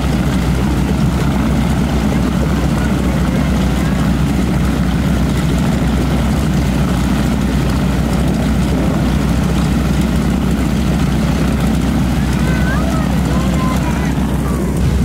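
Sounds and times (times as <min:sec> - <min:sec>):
propeller plane engine rumbling: 0:00.0 - 0:15.0.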